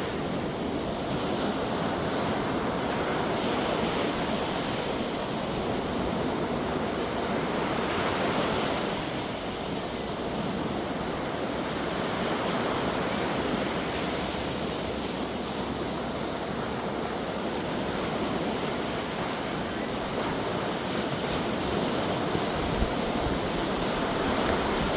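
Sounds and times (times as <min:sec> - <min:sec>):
sea waves washing onto shore: 0:00.0 - 0:24.9.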